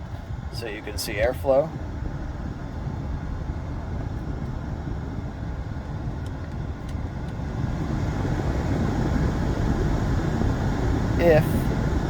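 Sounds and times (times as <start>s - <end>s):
air blower rushing through vents: 0.0s - 12.0s.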